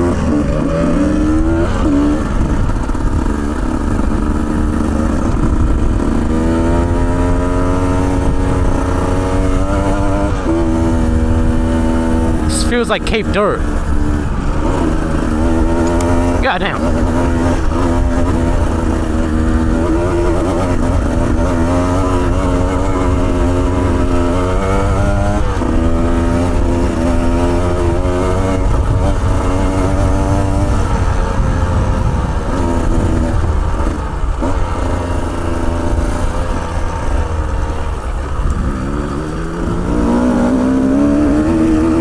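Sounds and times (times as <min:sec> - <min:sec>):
dirt bike engine revving: 0:00.0 - 0:38.0, 0:38.6 - 0:42.0.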